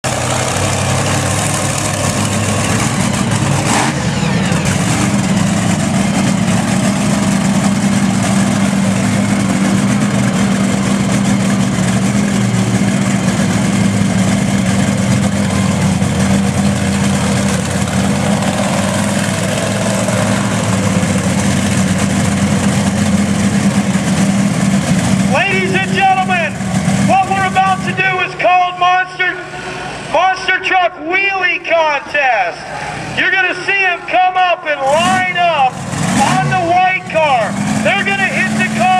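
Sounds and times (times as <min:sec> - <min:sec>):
monster truck engine idling: 0:00.0 - 0:31.0, 0:32.0 - 0:38.9.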